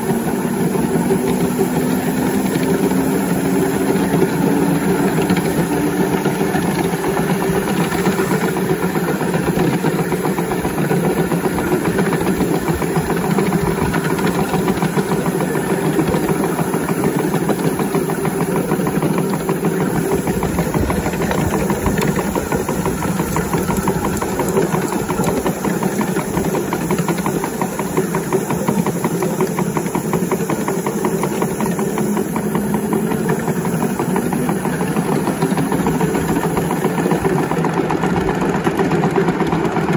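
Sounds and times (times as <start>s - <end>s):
steam locomotive chuffing: 0.0s - 39.9s
wheels rumbling on rails: 0.0s - 39.9s.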